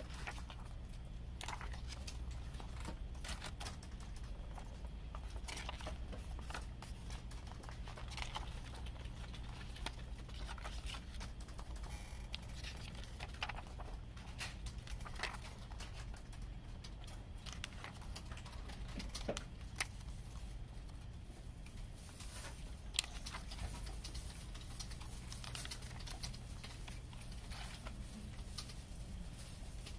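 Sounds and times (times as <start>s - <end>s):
plastic packaging crinkling: 0.0s - 29.9s
steady low hum: 0.0s - 29.9s.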